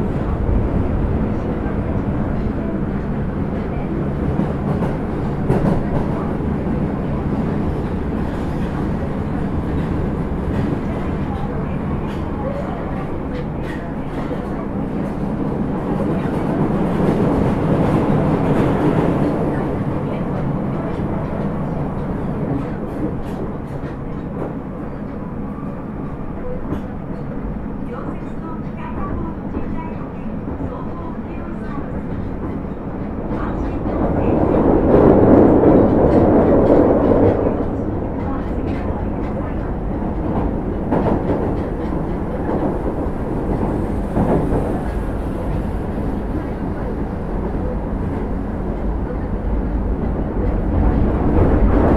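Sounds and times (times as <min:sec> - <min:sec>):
subway train wheels rumbling: 0:00.0 - 0:51.9.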